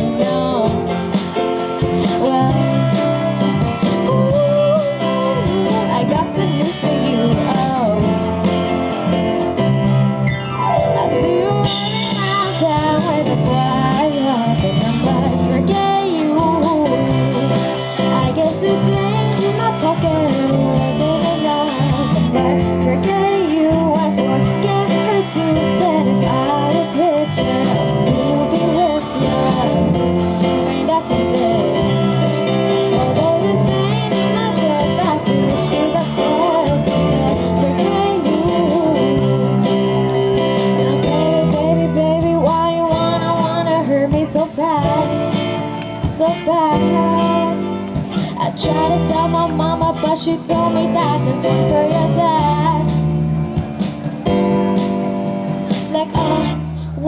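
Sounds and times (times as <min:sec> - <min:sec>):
woman singing: 0:00.0 - 0:08.6, 0:10.8 - 0:53.2, 0:55.7 - 0:57.0
live rock band: 0:00.0 - 0:57.0.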